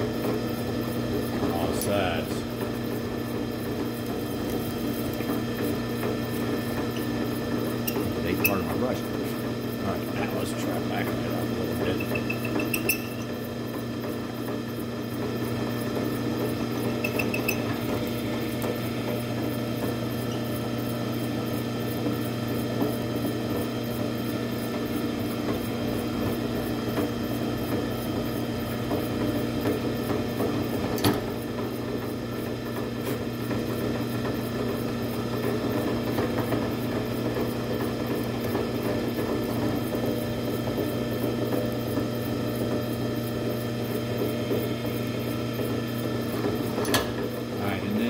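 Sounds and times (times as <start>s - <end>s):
drill press motor hum: 0.0s - 48.0s.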